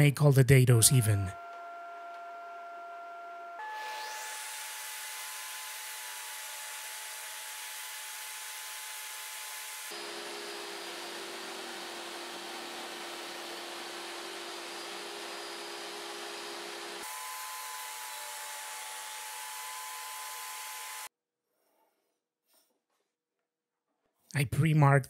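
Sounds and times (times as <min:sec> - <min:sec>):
table saw motor whine: 0:00.9 - 0:21.1.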